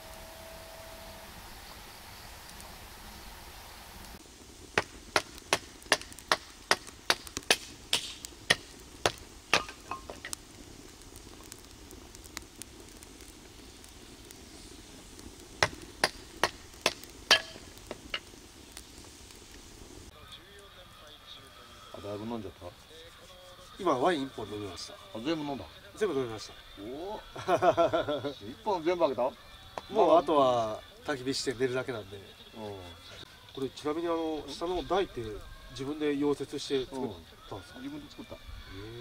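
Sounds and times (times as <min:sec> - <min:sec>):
firewood crackling and popping: 0:00.0 - 0:39.0.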